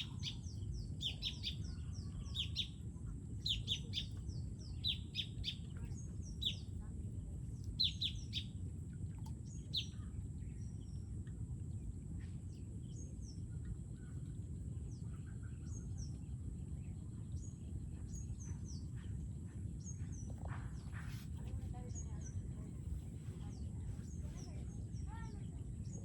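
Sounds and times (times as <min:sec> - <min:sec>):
small birds chirping: 0:00.0 - 0:11.1, 0:12.2 - 0:26.0
low outdoor rumble: 0:00.0 - 0:26.0.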